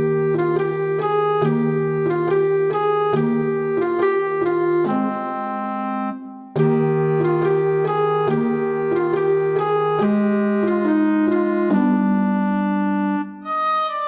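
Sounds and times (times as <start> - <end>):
keyboard melody: 0.0 - 14.0.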